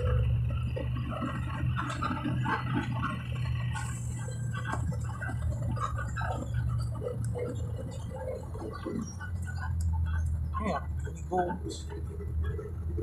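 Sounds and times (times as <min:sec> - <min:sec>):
bus engine drone: 0:00.0 - 0:13.0
faint scattered noises: 0:00.0 - 0:13.0
road noise: 0:00.0 - 0:13.0.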